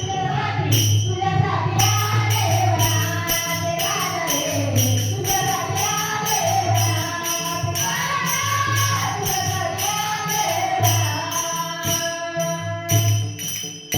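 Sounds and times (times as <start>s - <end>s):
jingling percussion: 0.0s - 13.9s
woman singing devotional song: 0.0s - 13.9s.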